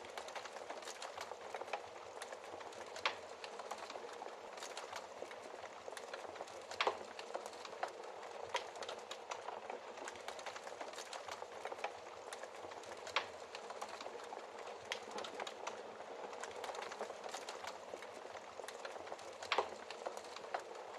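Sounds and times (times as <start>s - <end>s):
fire popping: 0.0s - 20.9s
wood fire crackling: 0.0s - 20.9s.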